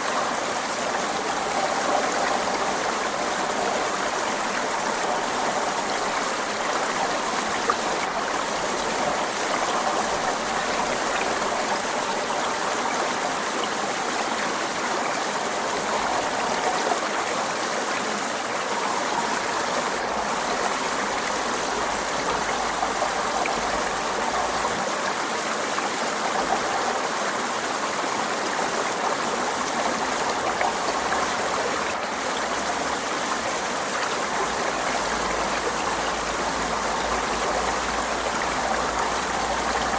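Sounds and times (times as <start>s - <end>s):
stream gurgling over rocks: 0.0s - 39.9s.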